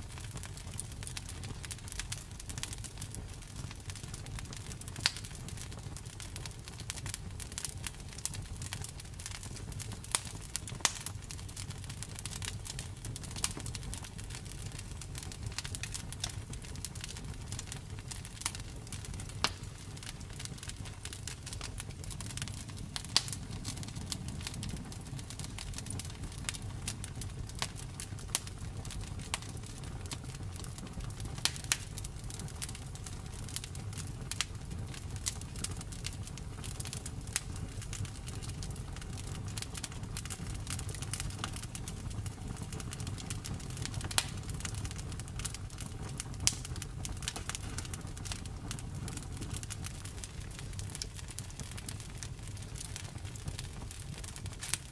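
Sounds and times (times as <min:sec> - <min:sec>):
fire popping: 0:00.0 - 0:54.9
wood fire crackling: 0:00.0 - 0:54.9.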